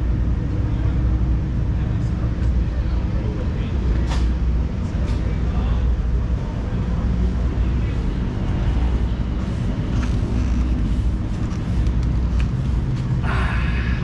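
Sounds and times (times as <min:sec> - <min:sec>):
low rumble of outdoor background: 0:00.0 - 0:14.0.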